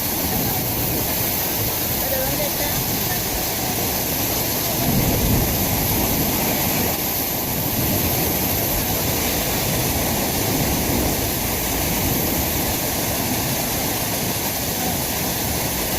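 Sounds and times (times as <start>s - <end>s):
rushing water hiss: 0.0s - 15.9s.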